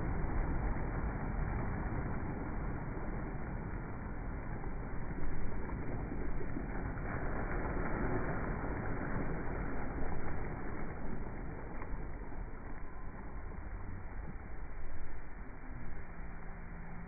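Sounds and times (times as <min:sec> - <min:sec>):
small waves washing on a beach: 0:00.0 - 0:17.0.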